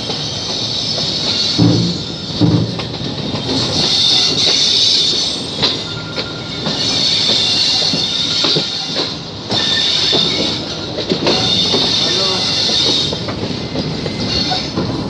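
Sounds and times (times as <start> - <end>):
train wheels squealing on rails: 0.0 - 15.0
wheels clacking over rail joints: 0.0 - 15.0.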